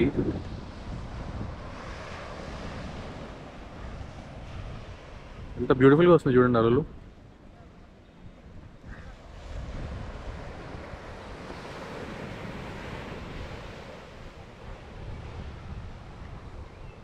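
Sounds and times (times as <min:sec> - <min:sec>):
sea surf breaking: 0:00.0 - 0:07.2, 0:08.5 - 0:17.0
wind buffeting microphone: 0:00.0 - 0:17.0.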